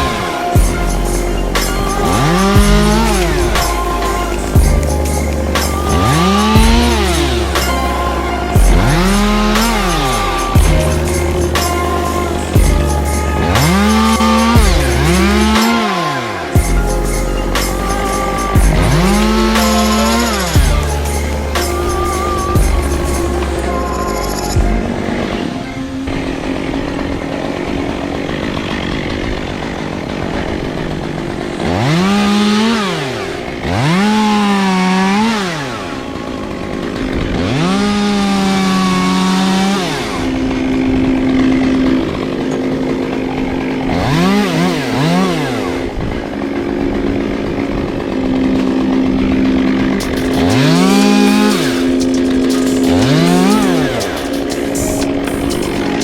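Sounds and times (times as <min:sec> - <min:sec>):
chainsaw idling and revving: 0:00.0 - 0:24.4, 0:26.1 - 0:56.0.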